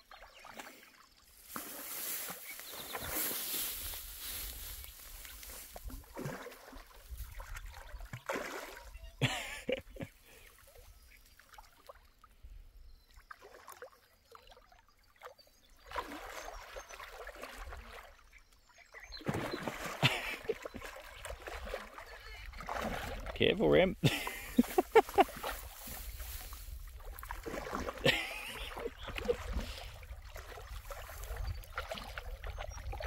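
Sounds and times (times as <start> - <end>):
water splashing and trickling: 0.0 - 33.0.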